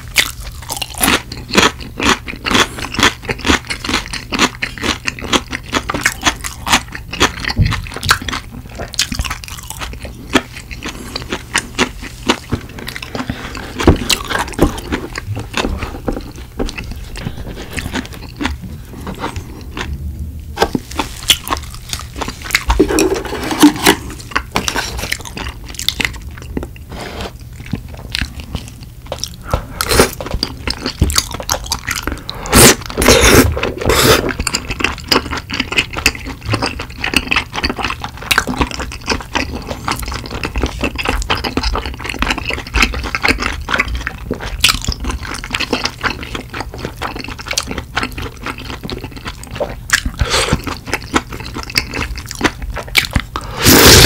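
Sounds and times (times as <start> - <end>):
man chewing and biting: 0.0 - 54.0.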